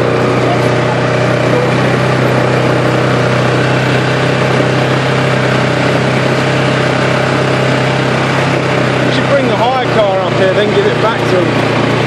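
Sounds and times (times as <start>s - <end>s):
quad bike engine droning: 0.0s - 12.0s.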